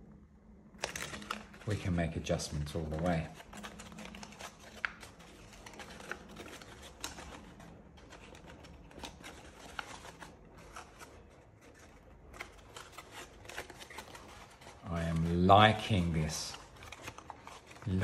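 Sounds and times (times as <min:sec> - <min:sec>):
paper crackling and rustling: 0:00.7 - 0:18.0.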